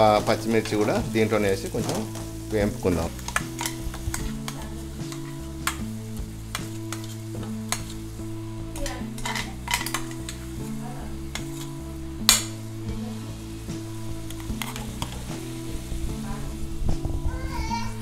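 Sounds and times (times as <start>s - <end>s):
spatula scraping and stirring pot: 0.0s - 17.2s
light sizzle of frying: 0.0s - 18.0s.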